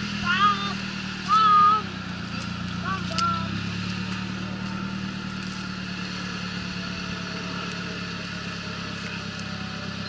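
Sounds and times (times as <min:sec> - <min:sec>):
truck engine running at low revs: 0:00.0 - 0:10.0.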